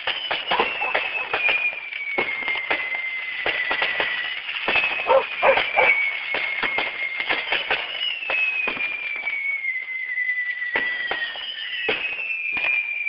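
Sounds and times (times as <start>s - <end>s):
firework cracks and bangs: 0.0s - 13.0s
firework whistles falling in pitch: 0.0s - 13.0s.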